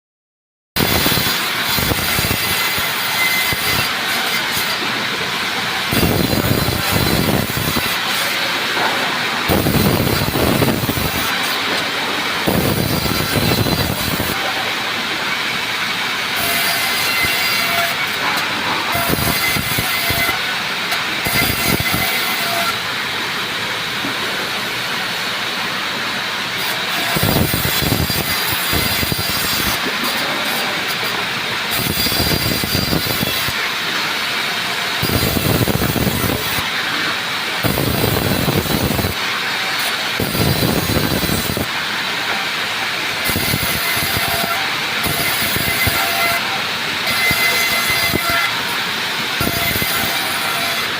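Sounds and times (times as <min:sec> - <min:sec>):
band saw cutting wood: 0:00.8 - 0:50.9.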